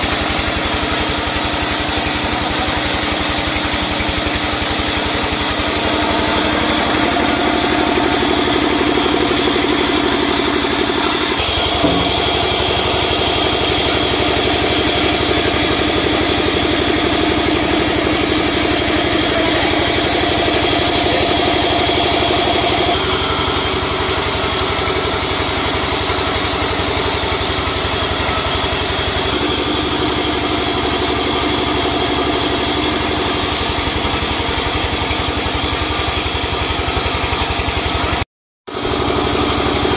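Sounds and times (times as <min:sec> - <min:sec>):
machine hum: 0:00.0 - 0:38.1
band saw cutting timber: 0:00.0 - 0:39.9.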